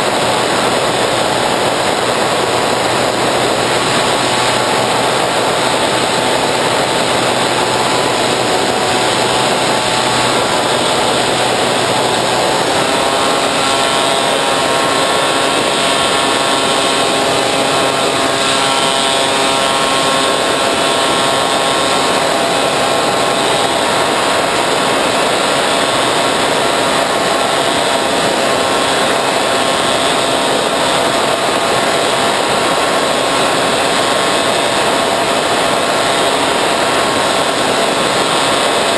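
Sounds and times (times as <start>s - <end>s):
electric motor and propeller: 0.0s - 38.9s
wind rush: 0.0s - 38.9s.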